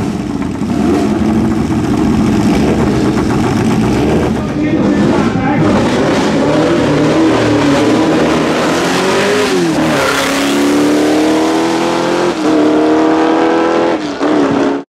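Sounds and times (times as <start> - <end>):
race car engine revving: 0.0 - 14.8.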